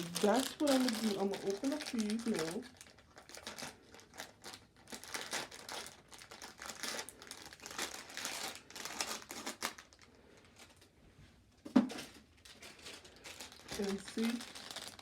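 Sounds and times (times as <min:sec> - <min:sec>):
packaging tearing: 0:00.0 - 0:10.8, 0:12.5 - 0:15.0
packaging crinkling: 0:00.0 - 0:10.9, 0:12.0 - 0:15.0.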